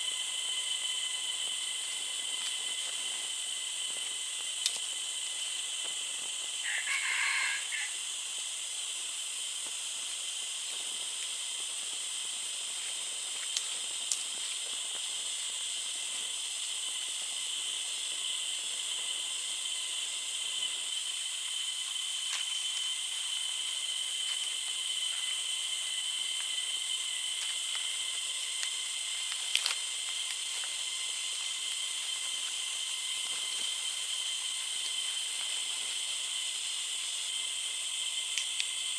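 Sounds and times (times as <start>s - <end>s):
insect chorus droning: 0.0s - 38.9s.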